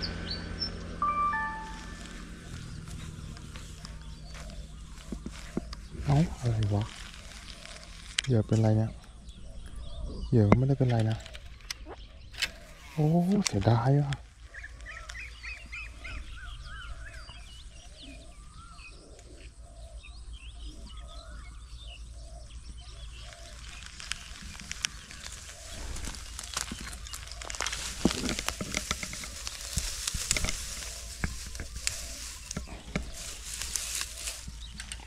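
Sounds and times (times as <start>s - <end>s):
small birds chirping: 0.0s - 35.0s
crackling rustles and clicks: 1.4s - 18.3s, 22.4s - 35.0s.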